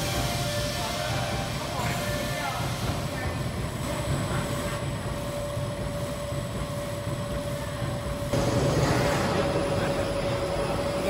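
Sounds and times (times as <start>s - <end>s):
machine rumbling with whine: 1.6s - 11.0s.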